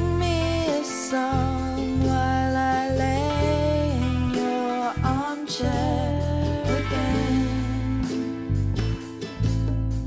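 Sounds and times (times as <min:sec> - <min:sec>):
slow acoustic guitar song: 0:00.0 - 0:10.0.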